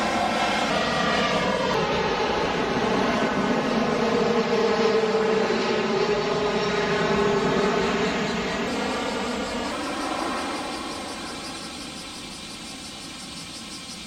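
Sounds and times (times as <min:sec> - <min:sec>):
jet airliner passing low: 0:00.0 - 0:14.0.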